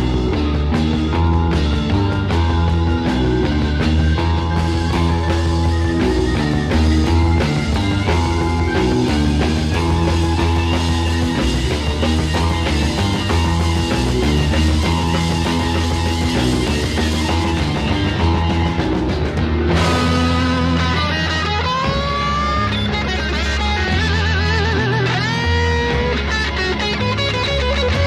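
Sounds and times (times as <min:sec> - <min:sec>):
rock music with guitar: 0:00.0 - 0:28.0
steady bass line: 0:00.0 - 0:28.0.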